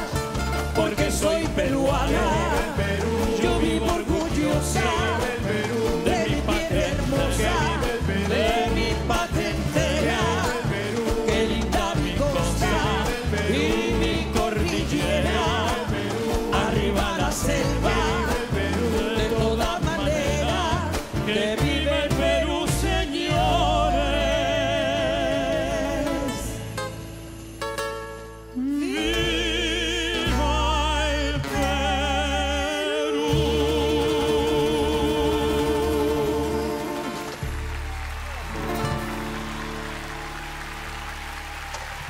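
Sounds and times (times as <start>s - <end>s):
operatic tenor singing: 0.0s - 26.8s, 28.6s - 37.4s
orchestra and band: 0.0s - 42.0s
woman singing: 0.8s - 26.6s, 28.6s - 37.1s.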